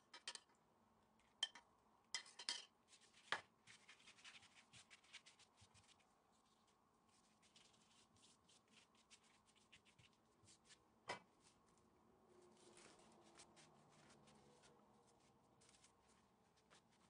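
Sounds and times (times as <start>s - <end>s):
pastry brush strokes: 2.8s - 17.0s.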